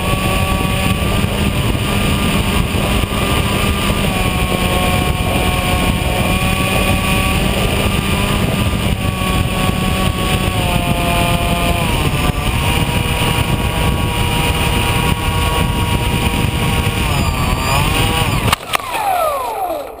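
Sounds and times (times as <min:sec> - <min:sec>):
wind rush over airframe: 0:00.0 - 0:19.9
electric motor and propeller whine: 0:00.0 - 0:20.0.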